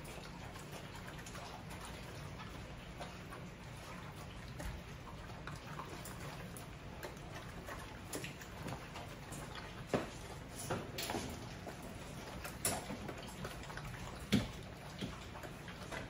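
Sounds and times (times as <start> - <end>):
puppies crunching kibble: 0.0 - 16.0.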